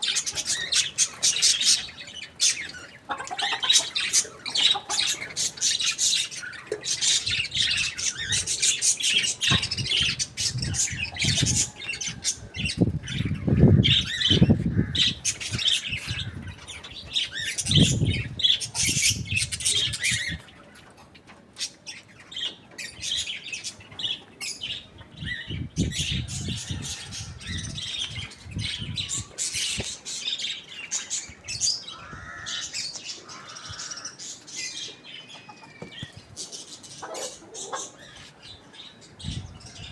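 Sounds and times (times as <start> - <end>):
birds squawking and chirping: 0.0 - 39.9.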